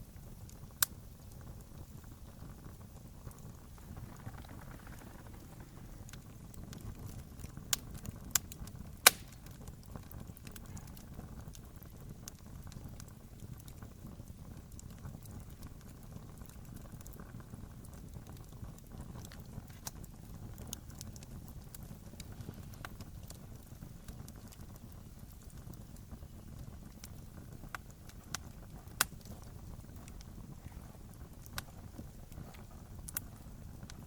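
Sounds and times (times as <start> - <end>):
sharp pops from fire: 0.0 - 34.0
wood fire burning and crackling: 0.0 - 34.0.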